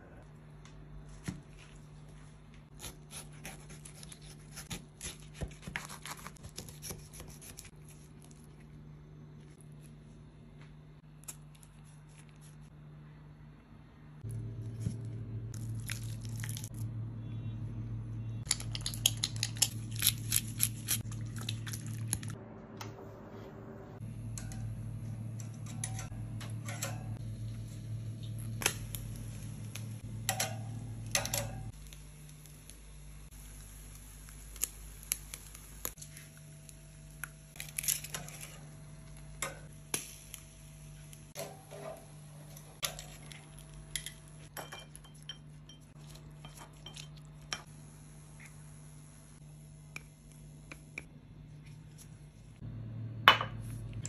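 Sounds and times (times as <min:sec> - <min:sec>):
steady low hum: 0:07.1 - 0:54.0.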